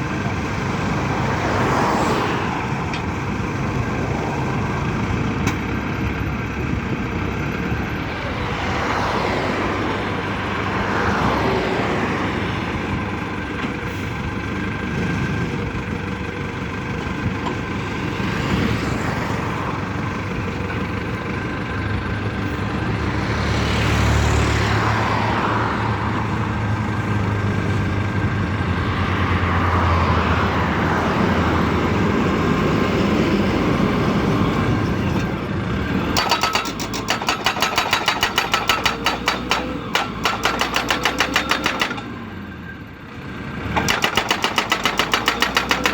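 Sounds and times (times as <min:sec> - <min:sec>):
engines running: 0:00.0 - 0:45.9
vehicles passing by: 0:00.0 - 0:45.9.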